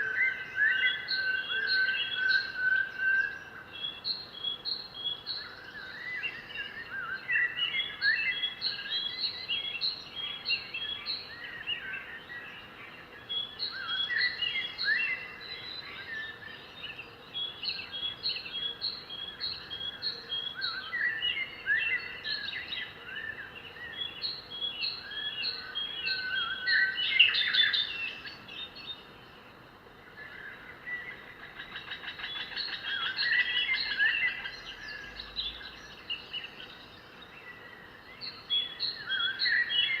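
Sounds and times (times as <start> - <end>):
birds chirping and whistling: 0.0 - 12.0, 17.4 - 29.1, 30.8 - 40.0.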